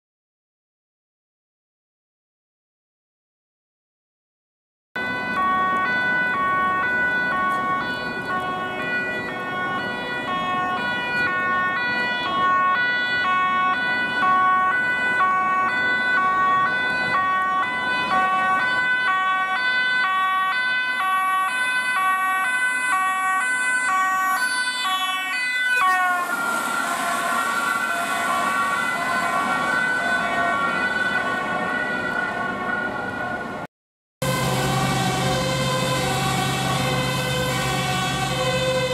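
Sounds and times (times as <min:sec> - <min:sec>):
two-tone fire engine siren: 0:05.0 - 0:38.9.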